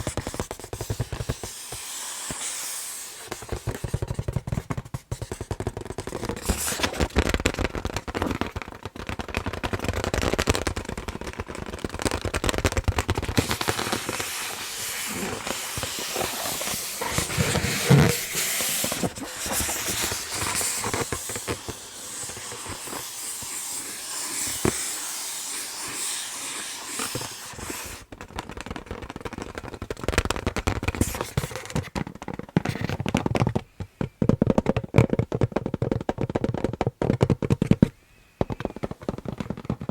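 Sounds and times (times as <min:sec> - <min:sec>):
scratching on balloon: 0:00.0 - 0:34.8
fingers tapping on balloon: 0:00.0 - 0:39.9.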